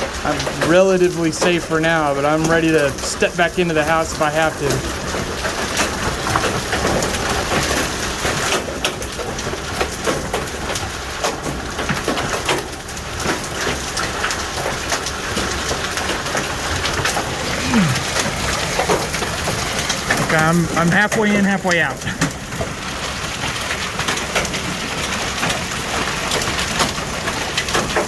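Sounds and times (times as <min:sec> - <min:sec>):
hail and rain pelting: 0:00.0 - 0:28.0.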